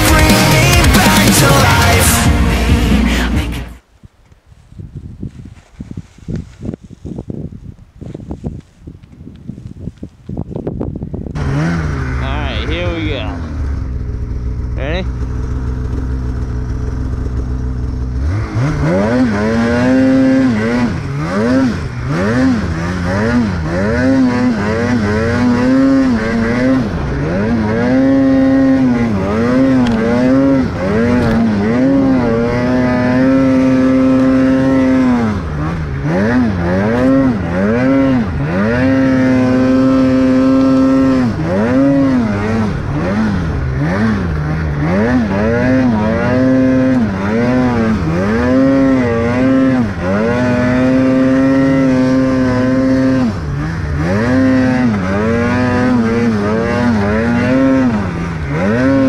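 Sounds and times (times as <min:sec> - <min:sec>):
snowmobile engine revving: 0:00.0 - 0:03.7, 0:11.3 - 0:59.0.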